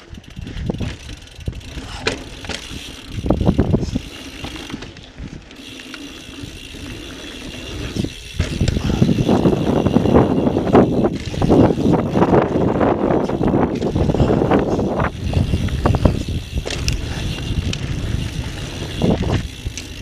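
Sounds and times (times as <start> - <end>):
bike rattling and clicking: 0.0 - 20.0
bike tyres crunching on dirt: 0.0 - 20.0.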